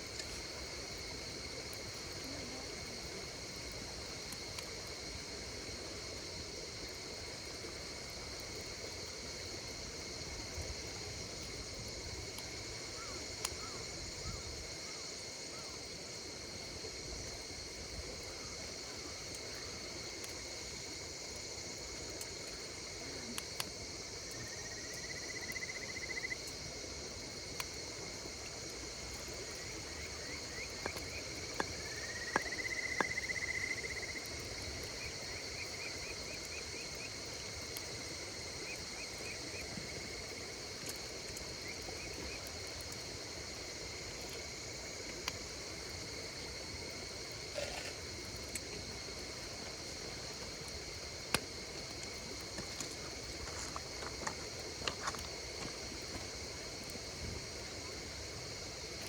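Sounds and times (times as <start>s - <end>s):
campfire crackling: 0.0s - 59.0s
insects trilling: 0.0s - 59.0s.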